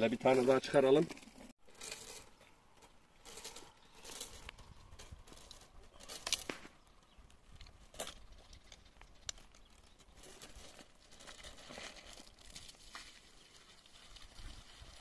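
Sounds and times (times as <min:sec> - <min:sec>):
rustling and scraping: 0:00.0 - 0:15.0.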